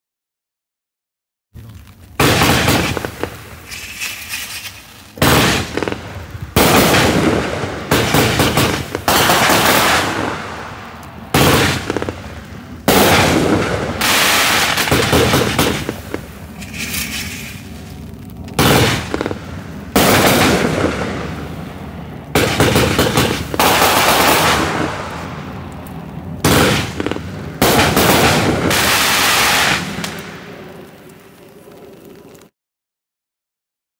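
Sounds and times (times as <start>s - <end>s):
fireworks hiss: 2.1s - 25.6s, 26.4s - 31.4s
fireworks shots and bursts: 2.1s - 32.2s.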